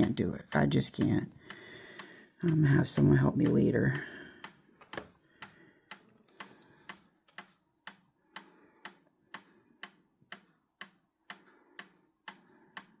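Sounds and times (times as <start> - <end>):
faint ticking: 0.0 - 13.0.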